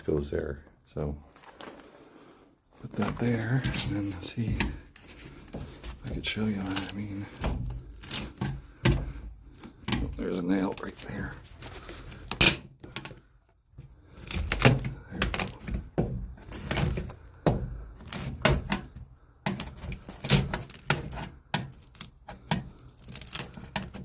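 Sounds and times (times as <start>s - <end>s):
hand tools knocking and scraping wood: 2.8s - 24.0s.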